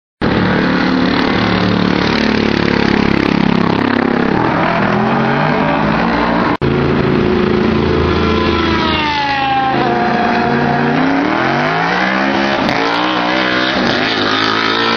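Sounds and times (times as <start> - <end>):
race car engines passing: 0.2 - 14.9.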